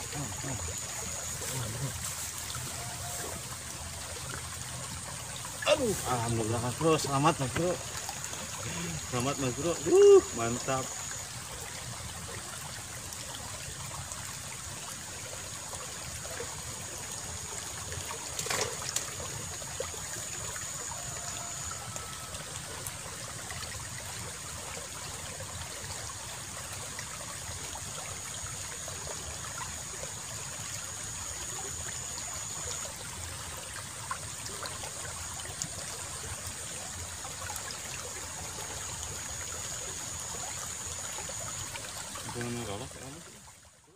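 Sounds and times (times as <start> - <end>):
water flowing and trickling: 0.0 - 43.9.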